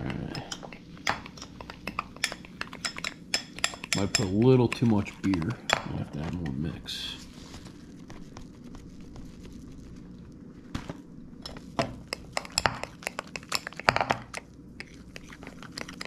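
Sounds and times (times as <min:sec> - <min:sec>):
spoon stirring batter in bowl: 0:00.2 - 0:09.6, 0:11.4 - 0:16.0.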